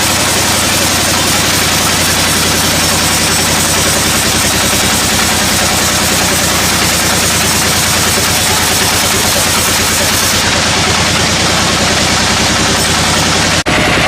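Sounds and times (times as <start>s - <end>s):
hiss of cutting: 0.0s - 13.9s
sawmill saw running: 0.0s - 14.0s.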